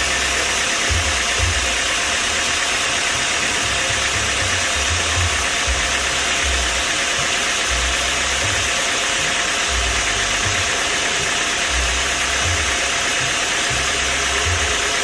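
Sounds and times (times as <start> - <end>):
machine engine running: 0.0 - 15.0.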